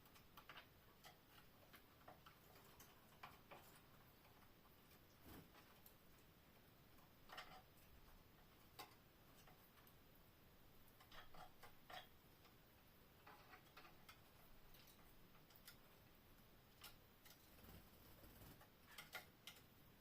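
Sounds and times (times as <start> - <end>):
faint clicks and ticks: 0.0 - 20.0.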